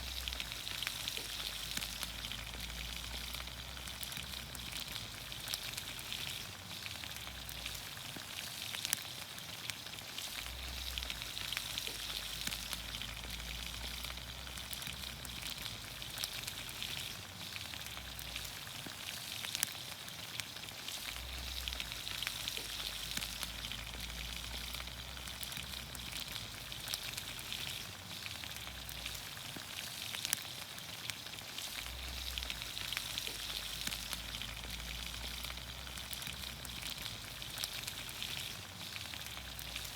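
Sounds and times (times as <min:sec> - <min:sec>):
oil popping and crackling: 0:00.0 - 0:39.9
vegetables sizzling in oil: 0:00.0 - 0:39.9.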